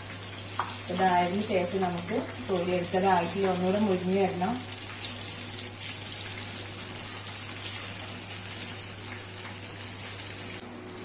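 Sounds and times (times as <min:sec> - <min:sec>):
fritters sizzling in hot oil: 0:00.0 - 0:10.6.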